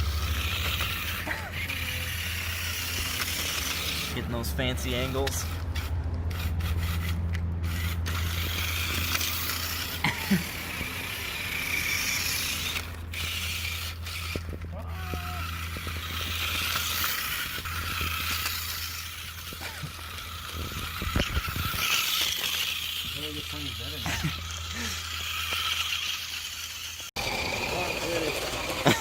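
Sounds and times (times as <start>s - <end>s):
ratcheting gear rattle: 0.0s - 29.0s
small electric motor hum: 0.0s - 29.0s.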